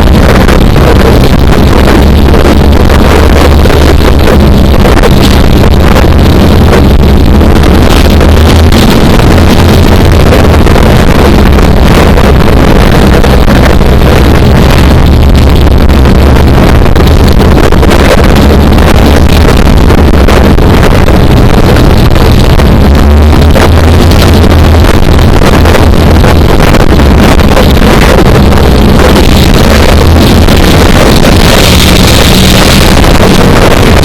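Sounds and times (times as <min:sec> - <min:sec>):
wind noise on microphone: 0:00.0 - 0:34.0.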